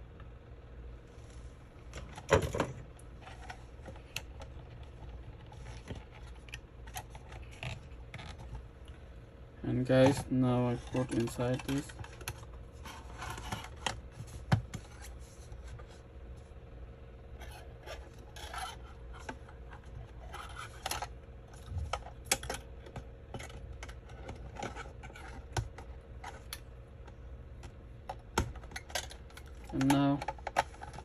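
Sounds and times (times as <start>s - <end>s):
plastic parts clicking and scraping: 1.9s - 9.0s, 9.8s - 16.0s, 17.4s - 31.0s.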